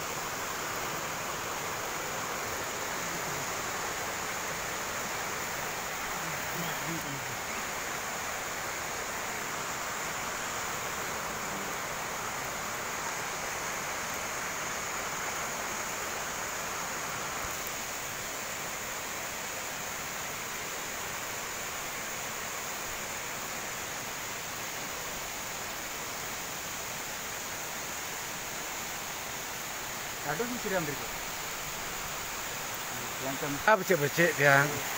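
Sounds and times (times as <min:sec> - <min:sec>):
waterfall falling onto rocks: 0:00.0 - 0:34.9.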